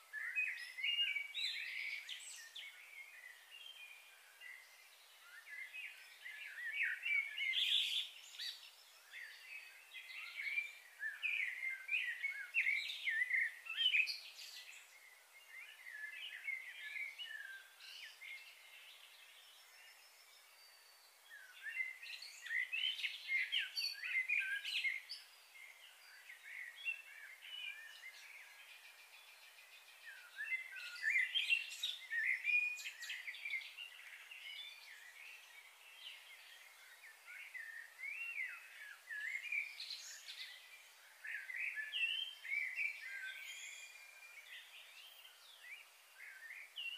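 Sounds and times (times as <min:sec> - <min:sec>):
songbirds chirping and warbling: 0:00.0 - 0:46.9.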